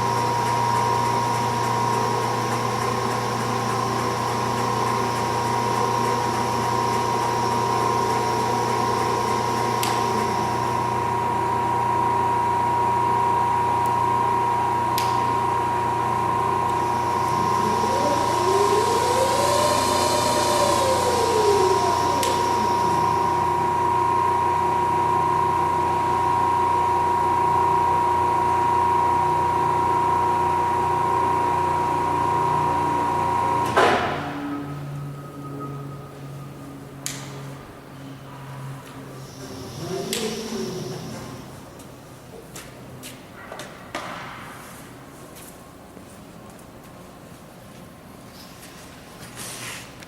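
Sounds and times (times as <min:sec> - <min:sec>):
electric drive whining: 0:00.0 - 0:41.7.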